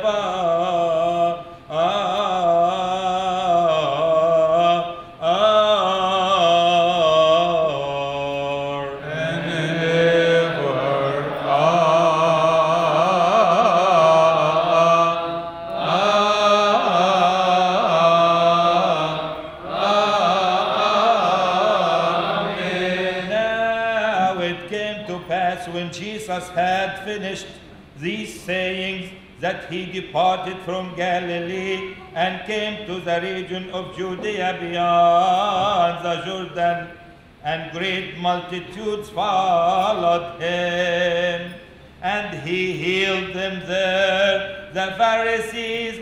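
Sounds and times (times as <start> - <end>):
group chanting a hymn in unison: 0.0 - 27.4, 28.0 - 46.0.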